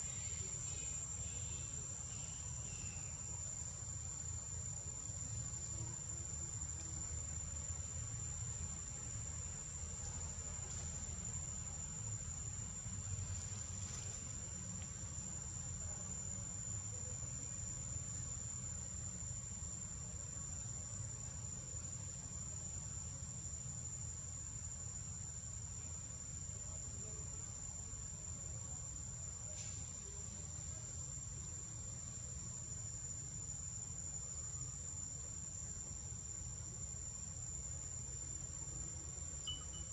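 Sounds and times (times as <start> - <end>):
insects high-pitched whine: 0.0 - 39.9.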